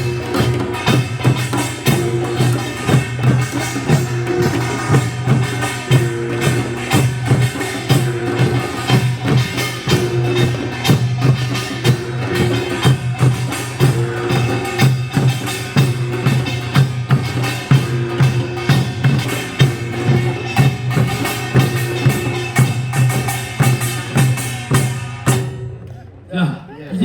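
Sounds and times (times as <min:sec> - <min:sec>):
drums beating: 0:00.0 - 0:27.0.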